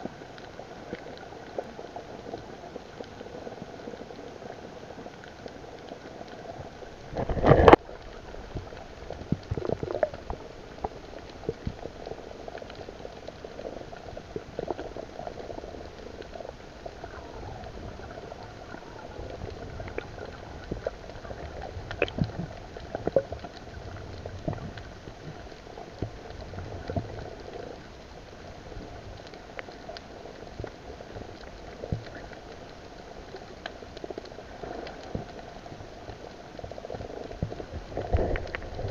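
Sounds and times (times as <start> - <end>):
muffled underwater bubbling: 0.0 - 38.9.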